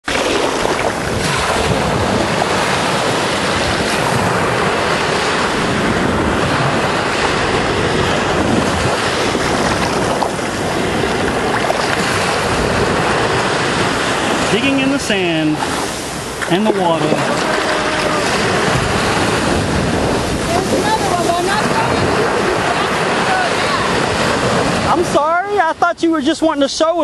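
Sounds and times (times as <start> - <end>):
wind on microphone: 0.0 - 25.6
small waves breaking in surf: 0.0 - 25.7.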